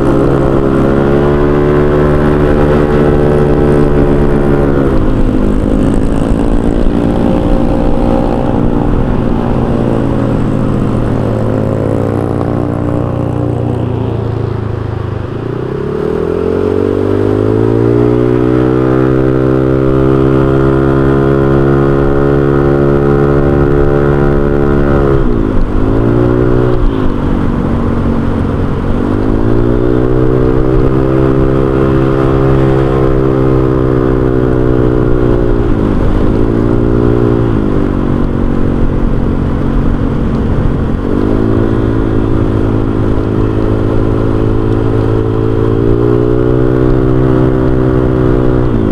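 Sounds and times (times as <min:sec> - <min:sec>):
scooter engine while riding: 0:00.0 - 0:48.9.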